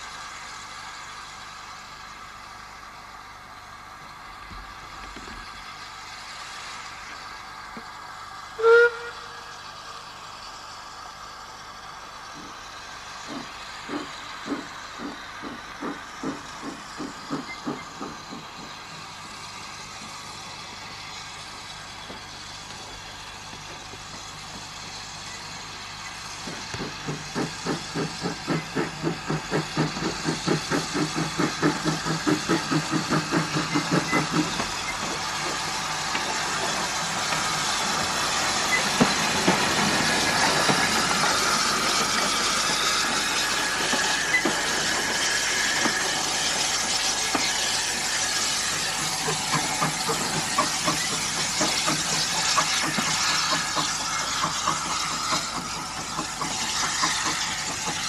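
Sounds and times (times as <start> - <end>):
hiss of steam: 0.0 - 58.0
steam locomotive exhaust chuffs: 0.0 - 58.0.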